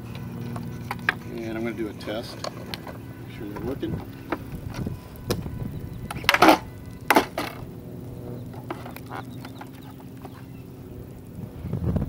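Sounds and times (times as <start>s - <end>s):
landing gear clacking: 0.0s - 11.4s.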